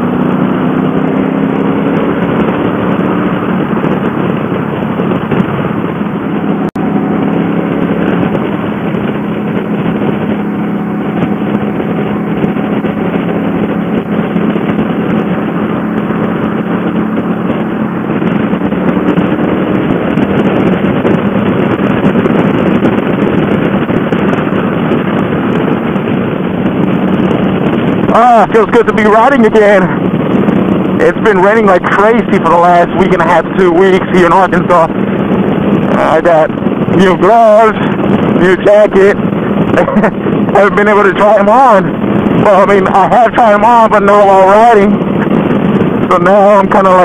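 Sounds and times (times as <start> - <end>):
motorcycle engine running: 0.0 - 47.0
wind rushing over microphone: 0.0 - 47.0.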